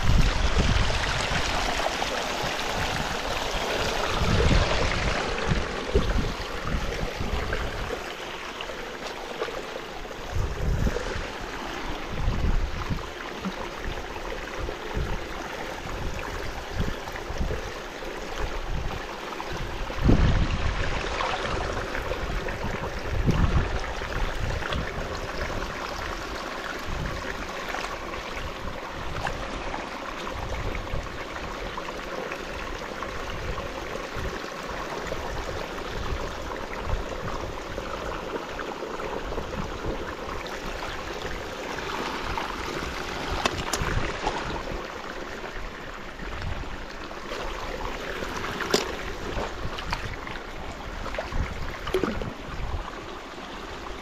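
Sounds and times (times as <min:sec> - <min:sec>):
water running through a canal: 0:00.0 - 0:54.0.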